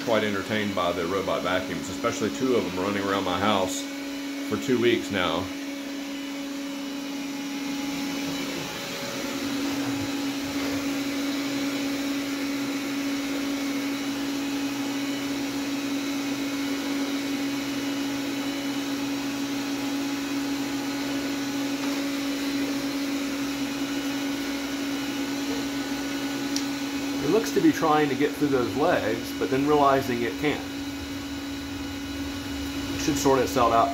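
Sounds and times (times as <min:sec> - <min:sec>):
robot vacuum running: 0:00.0 - 0:33.9.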